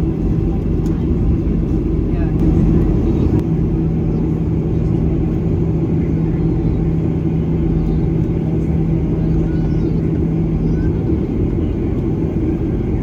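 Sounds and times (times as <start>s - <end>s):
airliner cabin drone: 0.0s - 13.0s
constant hum: 0.0s - 13.0s.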